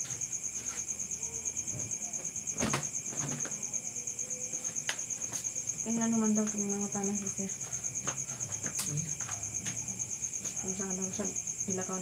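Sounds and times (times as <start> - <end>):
insects chirping in a high trill: 0.0 - 12.0.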